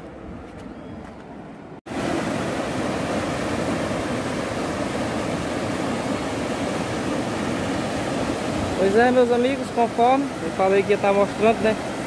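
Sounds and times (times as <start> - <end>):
river rapids rushing: 1.9 - 12.0.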